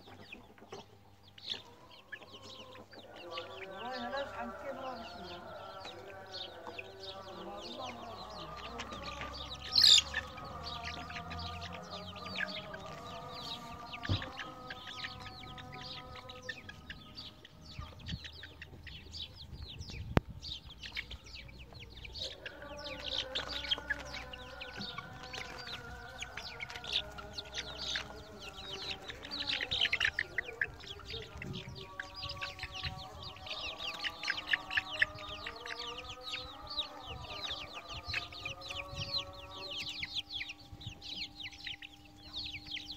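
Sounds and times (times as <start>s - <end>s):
chicks peeping and chirping: 0.0s - 42.9s.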